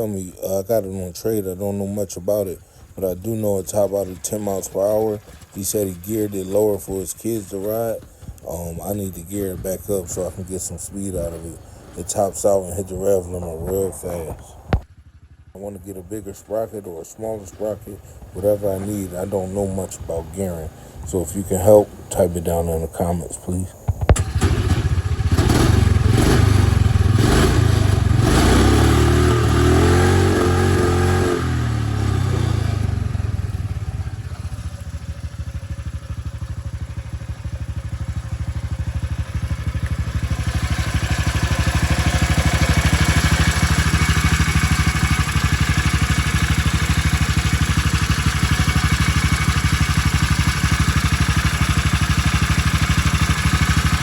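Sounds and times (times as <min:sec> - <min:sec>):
small gasoline engine revving: 0:00.0 - 0:23.1, 0:24.1 - 0:54.0.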